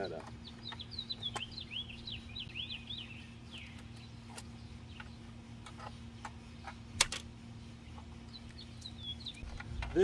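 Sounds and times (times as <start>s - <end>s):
songbird twittering: 0.0s - 10.0s.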